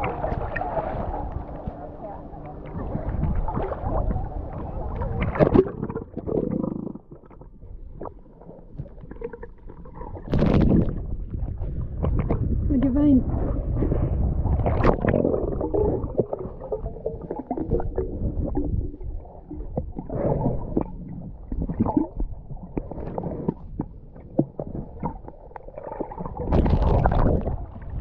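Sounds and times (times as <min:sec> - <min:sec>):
underwater clicks and bubbles: 0:00.0 - 0:28.0
underwater gurgling and rumbling: 0:00.0 - 0:28.0
water splashing: 0:00.0 - 0:28.0.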